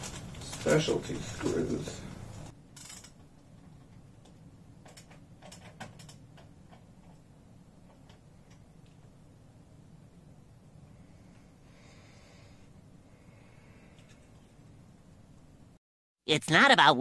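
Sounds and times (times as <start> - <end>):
low room hum: 0.0 - 15.8.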